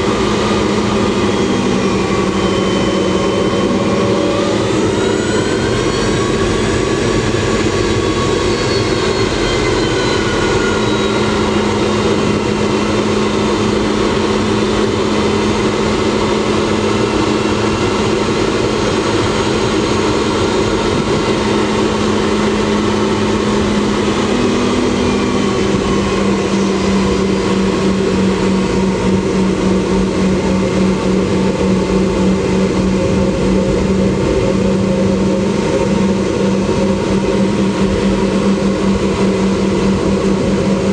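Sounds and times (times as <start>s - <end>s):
jet engines roaring in cabin: 0.0s - 40.9s
low throbbing hum: 0.0s - 40.9s.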